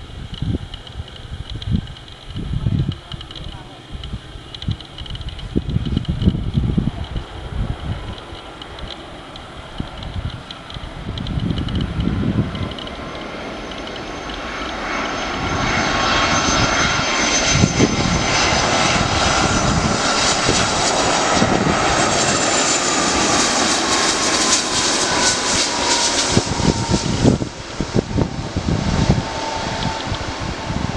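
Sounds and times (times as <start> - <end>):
airliner engines passing: 0.0 - 30.9
jet engine whine: 0.0 - 30.9.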